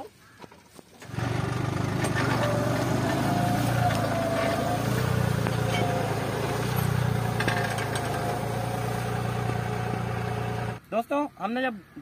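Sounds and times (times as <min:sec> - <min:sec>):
tractor diesel engine running: 0:01.0 - 0:10.8.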